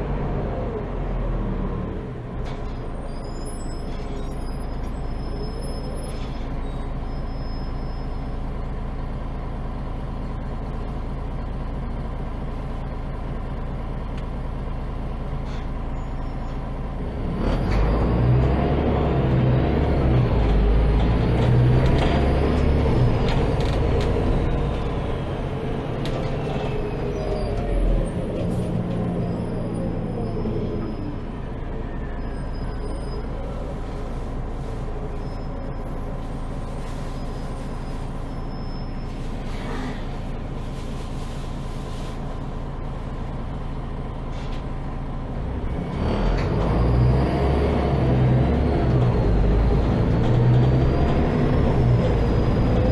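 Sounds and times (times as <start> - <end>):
bus engine running: 0.0 - 52.9.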